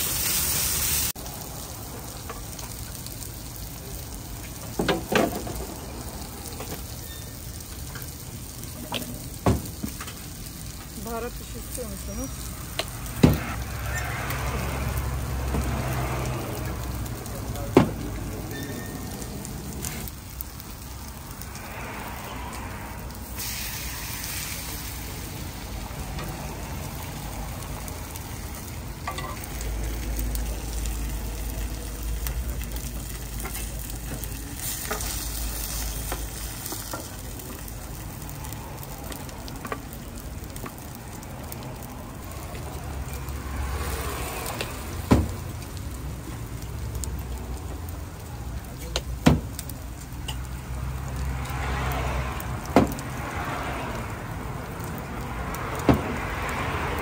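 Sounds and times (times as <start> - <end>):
food sizzling: 0.0 - 57.0.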